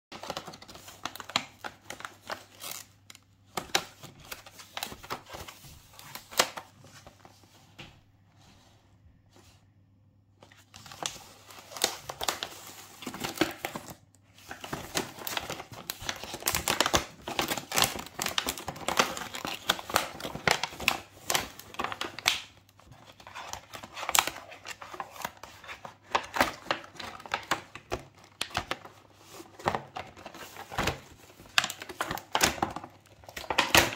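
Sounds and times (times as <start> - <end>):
plastic tearing: 0.1 - 6.9, 10.7 - 33.9
plastic wrapping crinkling: 0.1 - 7.5, 10.4 - 33.9.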